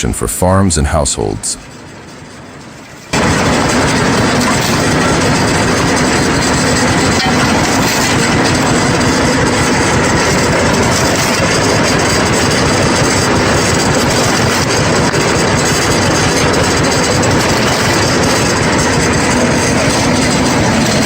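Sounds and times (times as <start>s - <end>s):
heavy machinery running: 0.0s - 21.0s.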